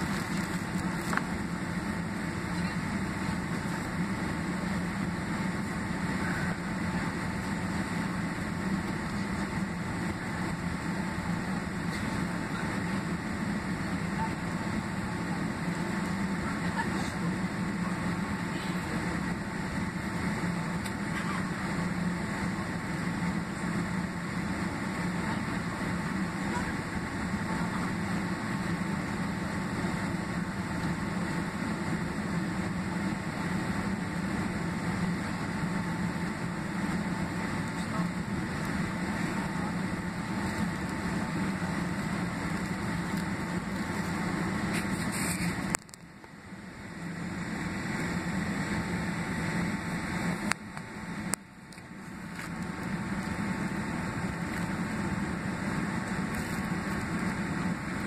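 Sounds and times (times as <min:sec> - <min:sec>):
jet engines heard in cabin: 0:00.0 - 0:58.0
low hum: 0:00.0 - 0:58.0.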